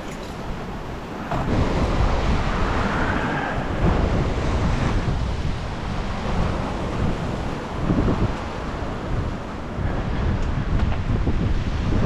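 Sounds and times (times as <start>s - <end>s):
ocean surf washing against rocks: 0.0s - 12.0s
wind buffeting microphone: 0.0s - 12.0s.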